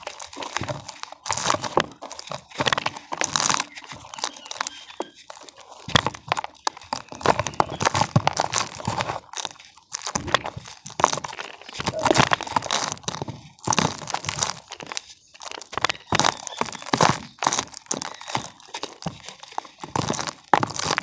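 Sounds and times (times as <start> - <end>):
cement chunks crunching: 0.0 - 21.0.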